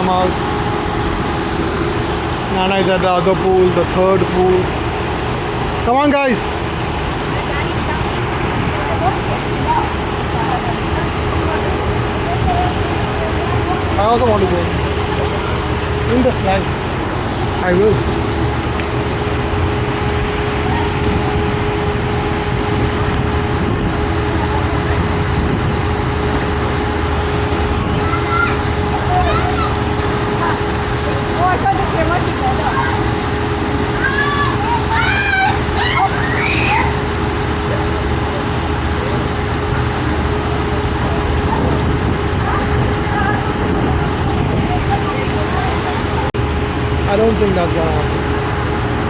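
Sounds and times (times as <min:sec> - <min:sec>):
constant hum: 0:00.0 - 0:49.0
rushing water: 0:00.0 - 0:49.0
faint voices: 0:05.8 - 0:46.3.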